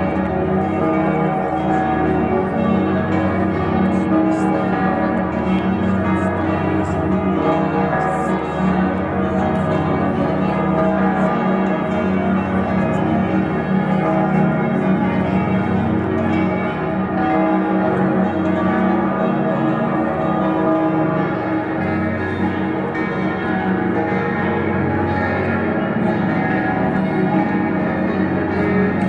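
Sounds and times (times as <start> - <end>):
church bells ringing in a peal: 0.0 - 29.0.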